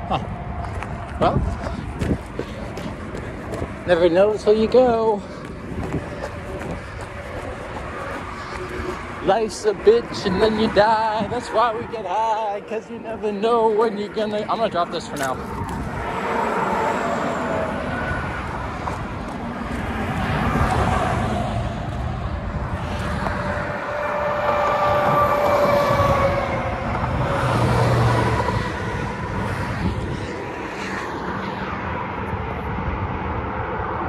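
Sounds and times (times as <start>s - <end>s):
traffic rumble: 0.0s - 34.0s
vehicles passing on highway: 0.0s - 34.0s.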